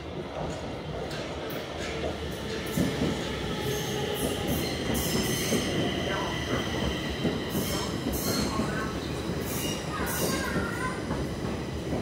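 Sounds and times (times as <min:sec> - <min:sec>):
metro train passing: 0:00.0 - 0:12.0.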